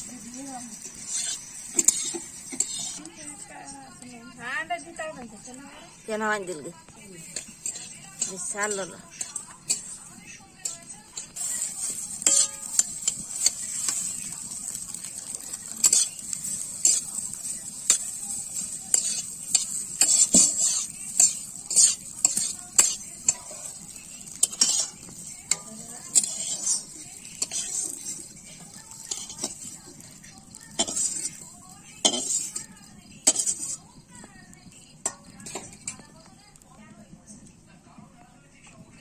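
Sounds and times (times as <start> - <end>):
metal spatula scraping a pan: 0.0 - 34.0, 35.0 - 36.2
food sizzling in hot oil: 0.0 - 38.9.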